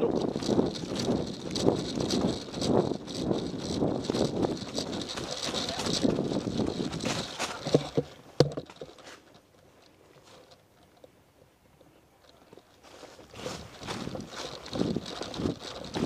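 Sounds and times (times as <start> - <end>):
hurried footsteps: 0.0 - 10.6, 12.4 - 16.0
faint outdoor noise: 0.0 - 16.0
clothing and gear rustling: 0.1 - 10.7, 12.3 - 16.0.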